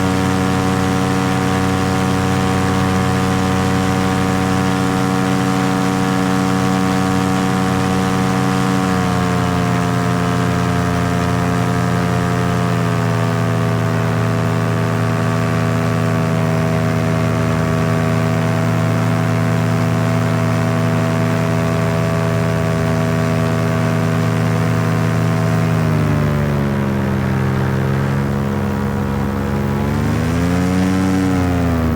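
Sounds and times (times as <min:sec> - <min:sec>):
paramotor engine and propeller: 0:00.0 - 0:31.9.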